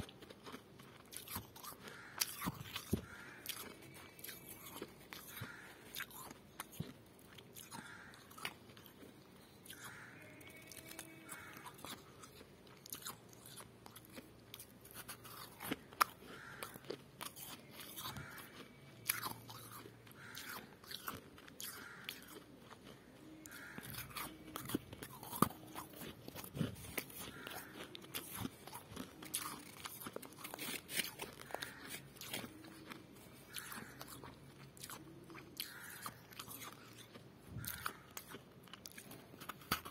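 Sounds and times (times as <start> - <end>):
frost crunching when chewed: 0.0 - 39.9.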